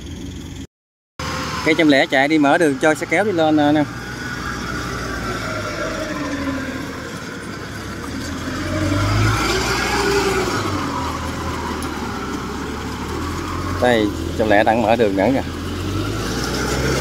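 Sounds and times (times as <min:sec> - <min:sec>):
engine humming under load: 0:00.0 - 0:17.0.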